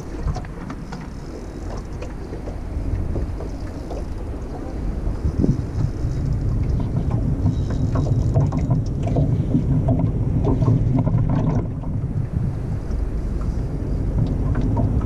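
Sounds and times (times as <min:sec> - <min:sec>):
outboard motor running: 0:00.0 - 0:15.0
wind on microphone: 0:00.0 - 0:15.0.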